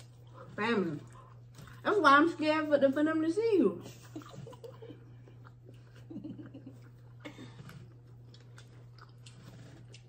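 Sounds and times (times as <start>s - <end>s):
soft chewing: 0.0s - 2.0s, 3.8s - 10.0s.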